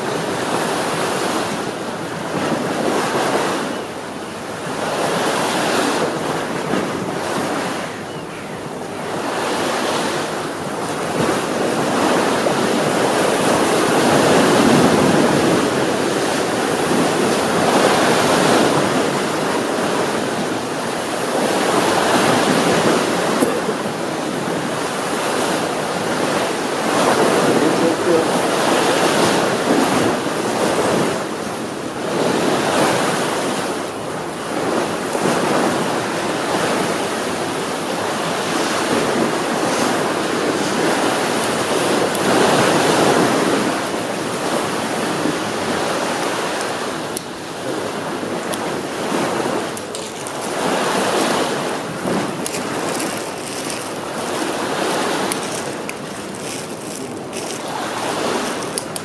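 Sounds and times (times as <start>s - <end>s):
ocean waves breaking on shore: 0.0s - 59.0s
wind on microphone: 0.0s - 59.0s.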